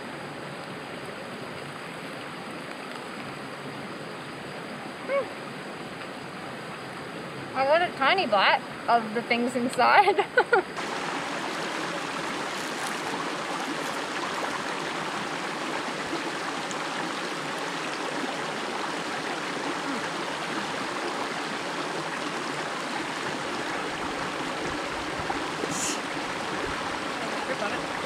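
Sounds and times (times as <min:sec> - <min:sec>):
river flowing: 0:00.0 - 0:28.0.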